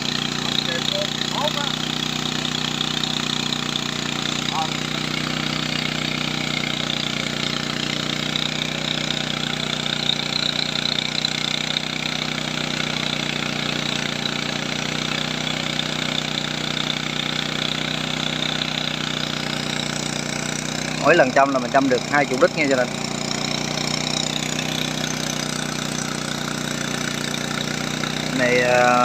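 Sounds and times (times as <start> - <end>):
machinery humming steadily: 0.0 - 29.0.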